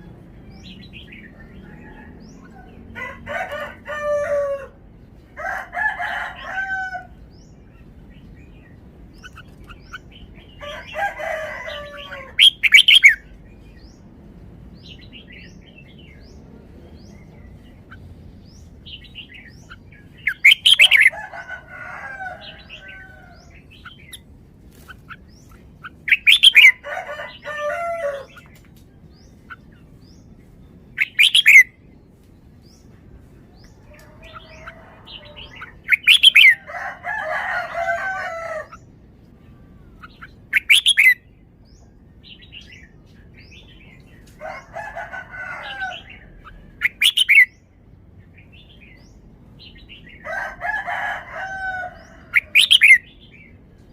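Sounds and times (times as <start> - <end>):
bird singing warbled phrases: 0.0 - 5.3, 6.0 - 53.9.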